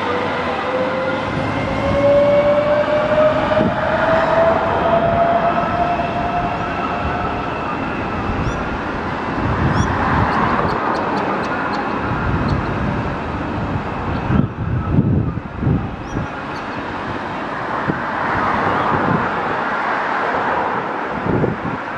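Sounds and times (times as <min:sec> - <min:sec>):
electric train passing: 0:00.0 - 0:20.9
wind buffeting microphone: 0:00.0 - 0:21.9.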